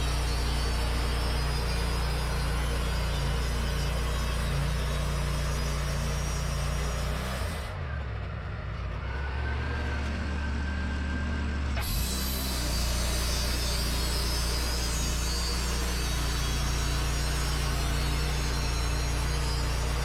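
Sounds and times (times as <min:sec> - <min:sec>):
sawmill engine drone: 0:00.0 - 0:20.0.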